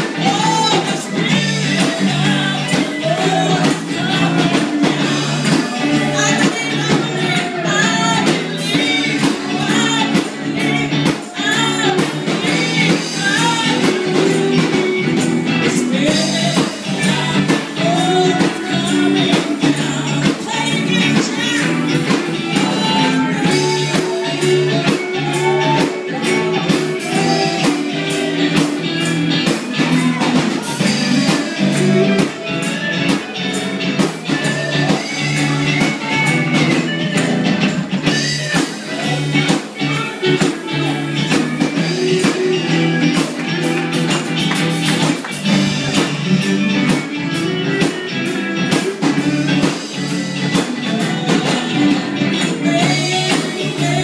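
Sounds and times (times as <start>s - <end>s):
fast percussion beat: 0.0s - 54.0s
voices singing: 0.0s - 54.0s.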